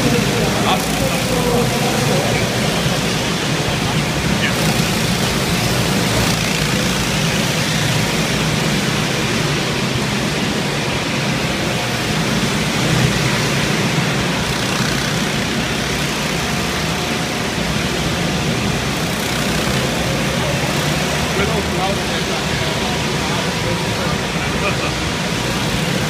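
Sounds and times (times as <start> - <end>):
go-kart engines: 0.0 - 26.0.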